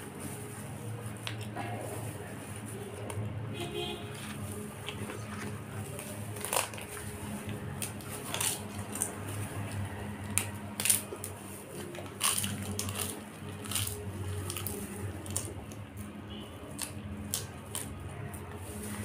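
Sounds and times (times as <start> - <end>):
papadum snapping and crunching: 1.0 - 3.5, 4.1 - 19.0.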